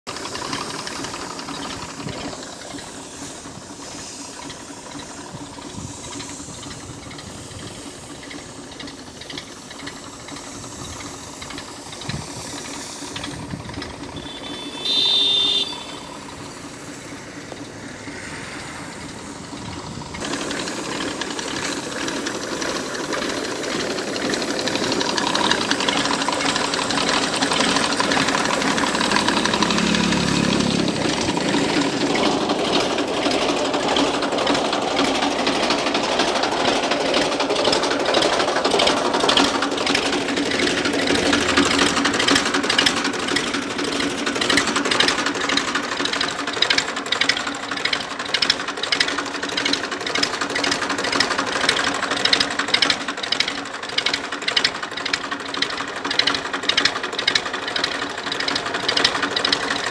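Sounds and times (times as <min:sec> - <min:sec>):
sprayer pump hissing and rattling: 0:00.0 - 0:59.9
tractor engine running: 0:00.0 - 0:59.9.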